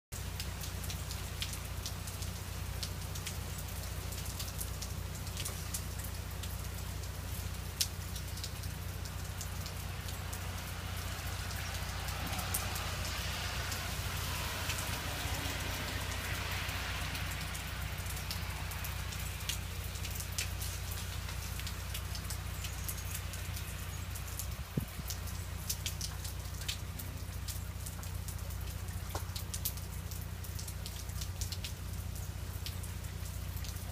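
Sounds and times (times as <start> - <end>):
freezing rain pattering: 0.1 - 33.9.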